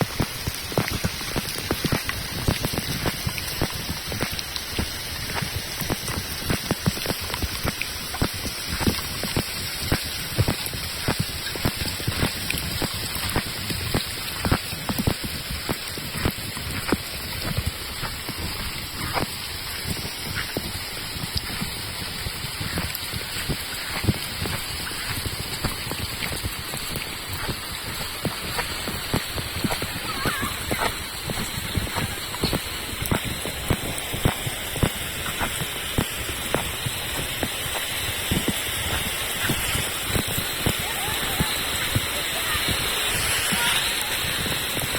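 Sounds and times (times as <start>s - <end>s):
large raindrops tapping: 0.0s - 44.9s
rain falling: 0.0s - 44.9s.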